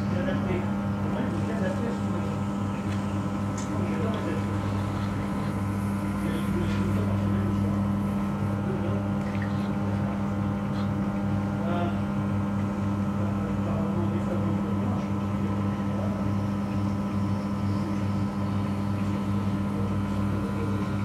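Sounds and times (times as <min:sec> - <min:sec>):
potter's wheel motor humming: 0:00.0 - 0:21.0.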